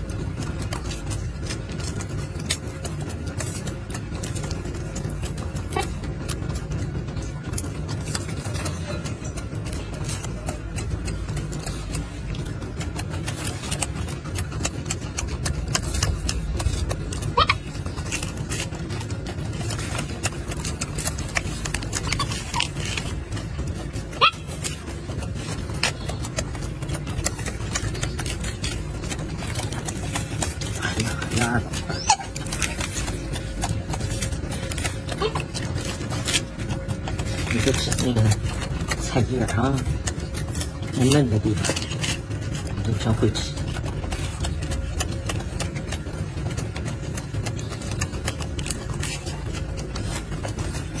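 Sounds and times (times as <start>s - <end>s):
monkey crunching lettuce: 0.0s - 51.0s
steady low rumble: 0.0s - 51.0s.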